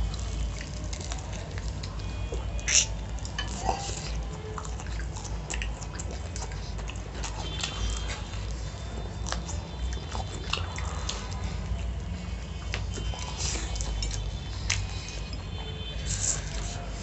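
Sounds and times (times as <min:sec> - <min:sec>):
chewing with crisp crackles: 0:00.0 - 0:17.0.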